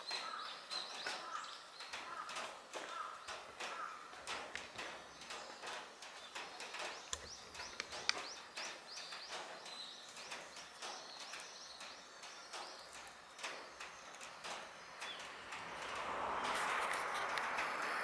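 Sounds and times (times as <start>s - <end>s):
light clicks and taps: 0.1s - 18.0s.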